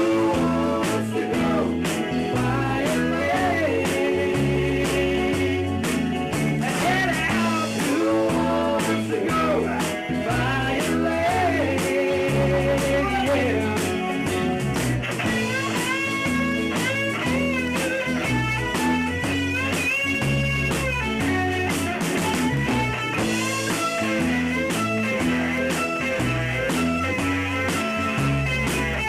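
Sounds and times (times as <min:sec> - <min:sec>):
bass line: 0:00.0 - 0:29.0
electric lead guitar bending notes: 0:00.0 - 0:29.0
steady drum beat: 0:00.0 - 0:29.0.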